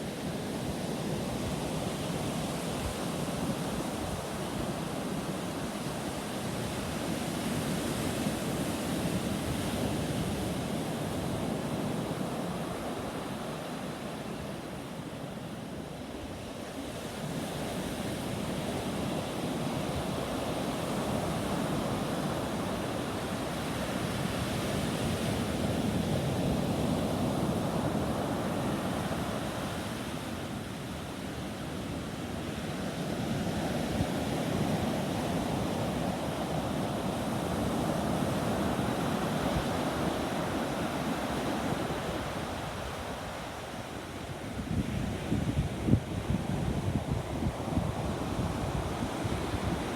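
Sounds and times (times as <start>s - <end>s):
waves breaking on a beach: 0.0s - 49.9s.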